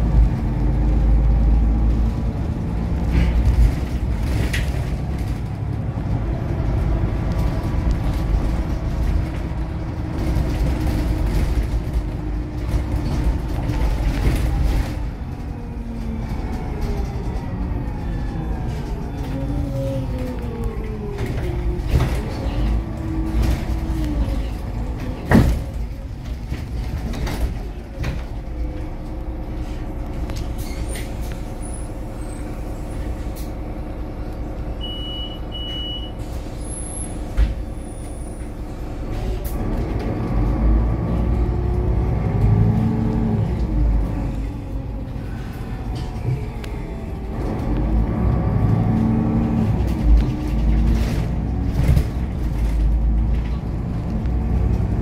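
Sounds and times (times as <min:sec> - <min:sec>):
bus engine: 0:00.0 - 0:55.0.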